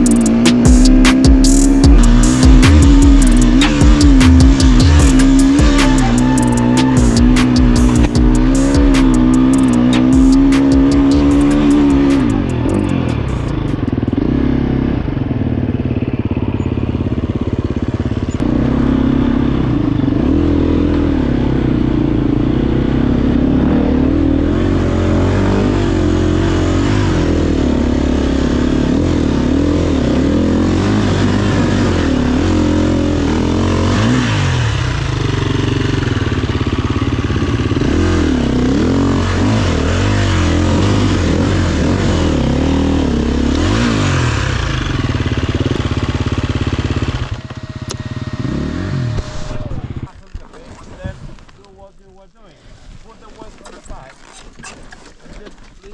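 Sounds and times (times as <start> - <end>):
dirt bike engine revving: 0.0 - 50.2.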